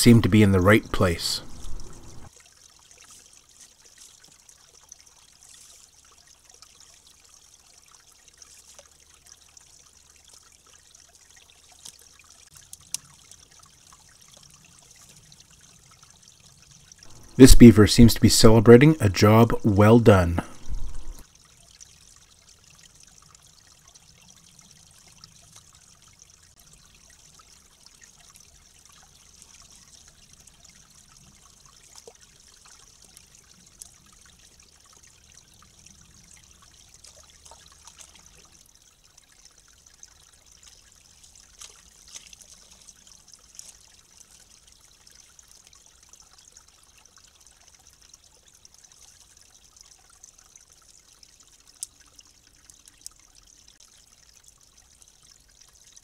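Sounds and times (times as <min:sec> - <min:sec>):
water trickling: 0:00.0 - 0:17.5, 0:18.3 - 0:56.0.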